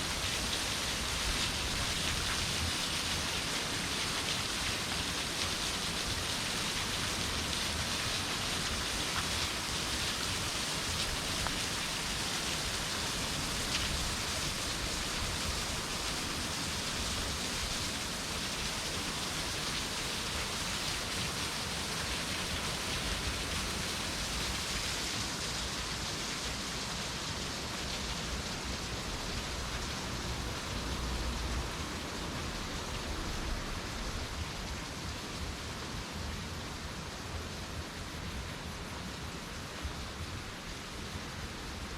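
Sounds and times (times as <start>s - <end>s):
water rushing: 0.0s - 41.9s.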